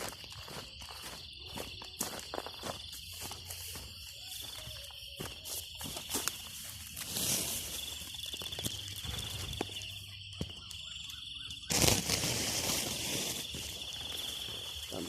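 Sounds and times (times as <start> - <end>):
footsteps through vegetation: 0.0 - 15.0
insects trilling: 0.0 - 15.0.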